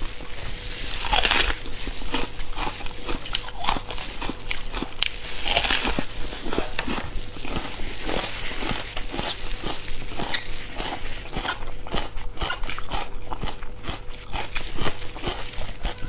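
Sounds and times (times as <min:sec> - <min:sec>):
person chewing with wet smacks: 0:00.0 - 0:16.0.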